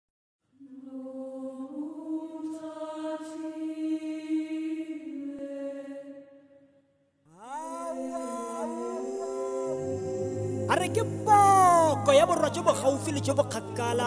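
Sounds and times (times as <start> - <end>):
wordless vocal chant: 0.6 - 6.7, 7.3 - 14.0.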